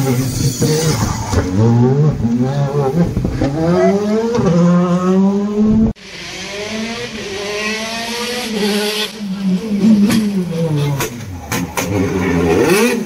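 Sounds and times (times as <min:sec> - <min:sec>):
faint rally car engine revving: 0:00.0 - 0:13.0
rally car engine accelerating: 0:00.0 - 0:13.0.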